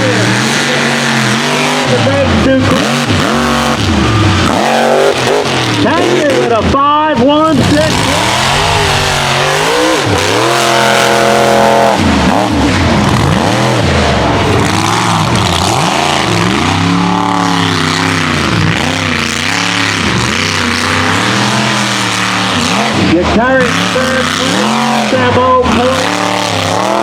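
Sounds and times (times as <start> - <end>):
truck engine revving hard: 0.0 - 27.0.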